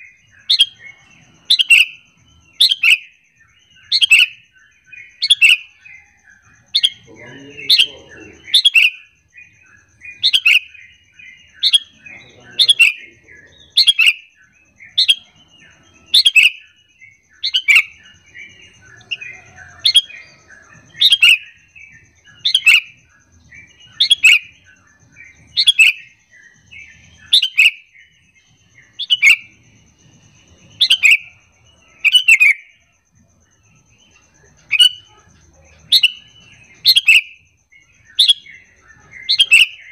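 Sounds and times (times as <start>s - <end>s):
bird chattering softly: 3.7s - 39.9s.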